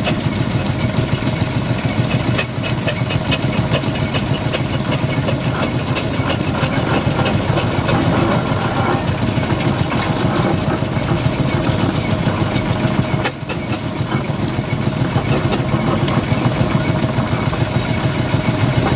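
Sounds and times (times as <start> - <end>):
steam roller engine clatter: 0.0 - 18.9.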